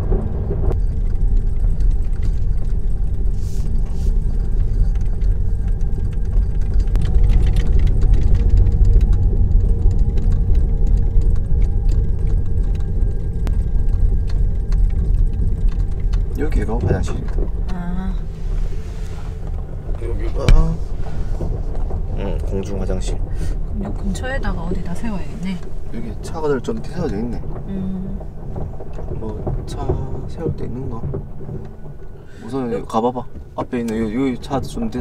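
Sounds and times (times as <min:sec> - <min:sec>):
tyres rumbling on gravel: 0:00.0 - 0:35.0.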